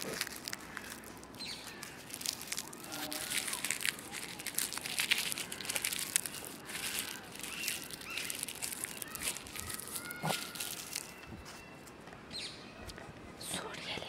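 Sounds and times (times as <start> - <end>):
dry leaf crackling: 0.0 - 12.5.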